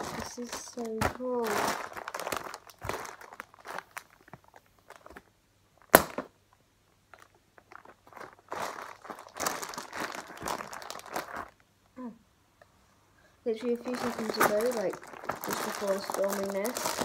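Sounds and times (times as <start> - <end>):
bubble wrap crinkling: 0.0 - 6.4, 7.1 - 11.7, 13.5 - 17.0
bubble wrap popping: 0.0 - 6.4, 7.1 - 11.6, 13.5 - 17.0.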